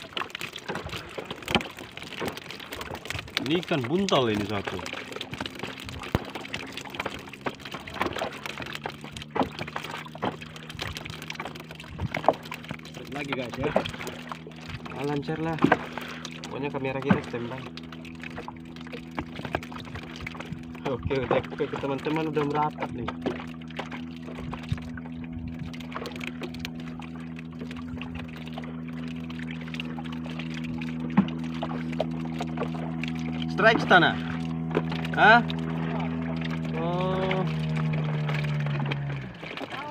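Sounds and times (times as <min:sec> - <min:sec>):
low steady hum: 0:00.0 - 0:39.9
water splashing against boat: 0:00.0 - 0:39.9.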